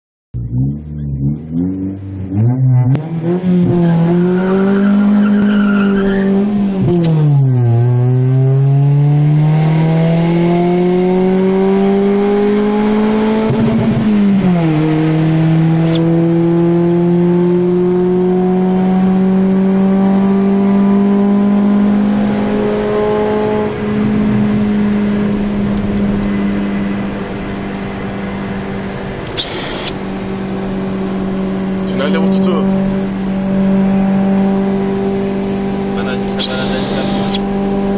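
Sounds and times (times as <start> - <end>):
car engine accelerating: 0.4 - 37.9.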